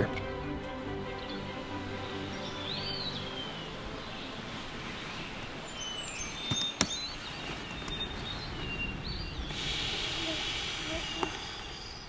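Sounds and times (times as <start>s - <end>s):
steady outdoor noise: 0.0s - 12.0s
high bird chirps: 1.2s - 12.0s.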